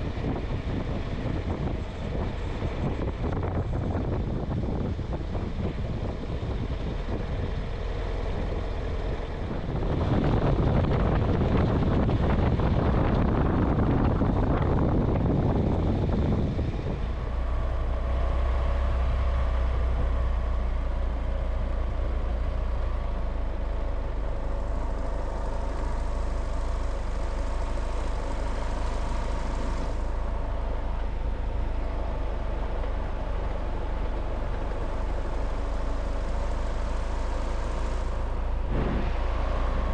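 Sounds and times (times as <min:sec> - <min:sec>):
engine hum: 0:00.0 - 0:39.9
road and wind noise: 0:00.0 - 0:39.9.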